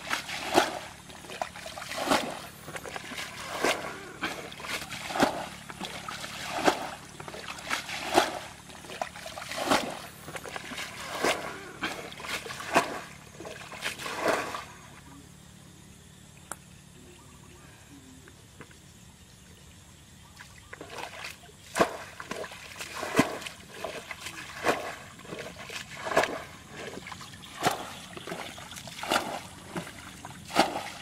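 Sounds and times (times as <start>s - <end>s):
water splashing from bucket: 0.0s - 14.7s, 20.7s - 31.0s.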